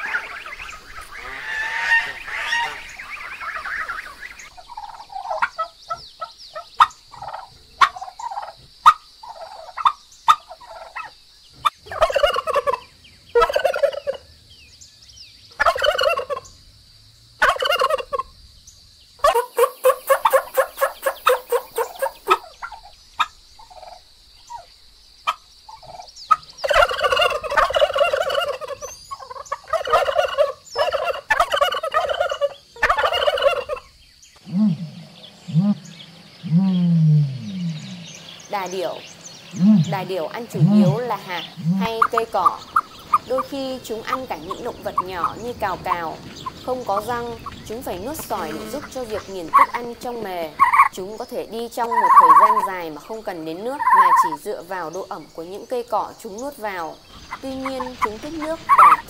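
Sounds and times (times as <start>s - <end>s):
turkeys gobbling: 0.0s - 14.2s, 15.6s - 16.5s, 17.4s - 18.3s, 19.2s - 54.5s, 57.1s - 59.0s.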